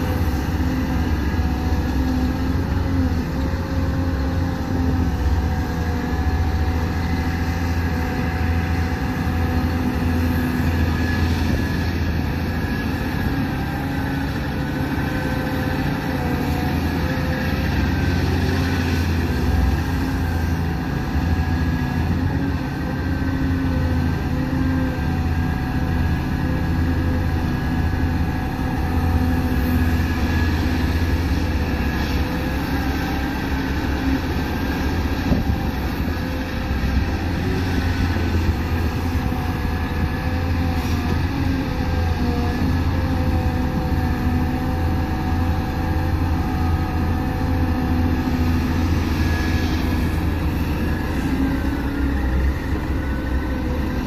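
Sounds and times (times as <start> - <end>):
heavy diesel machinery rumbling: 0.0 - 54.0
whining engine tones: 0.0 - 54.0.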